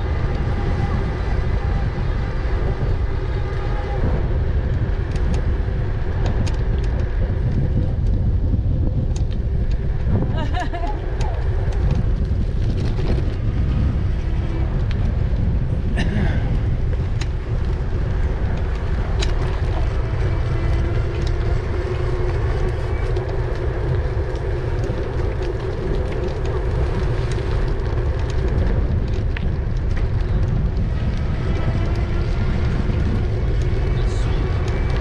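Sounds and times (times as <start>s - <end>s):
wind on microphone: 0.0s - 35.0s.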